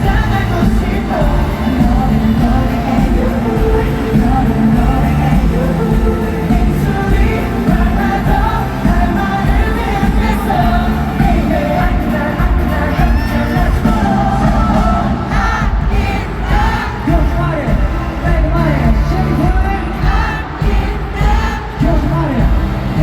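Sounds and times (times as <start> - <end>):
crowd noise: 0.0 - 23.0
loud pop backing track: 0.0 - 23.0
male group singing: 0.0 - 23.0.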